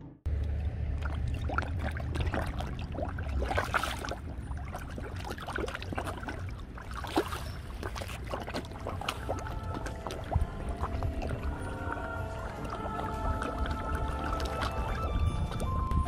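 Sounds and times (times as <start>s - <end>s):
low steady rumble: 0.0s - 16.0s
fish splashing at water surface: 0.4s - 15.8s.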